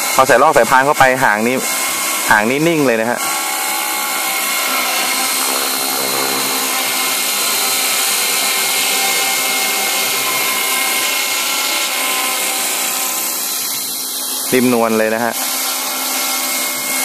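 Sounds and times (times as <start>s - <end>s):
rc helicopter whine: 0.0s - 17.0s.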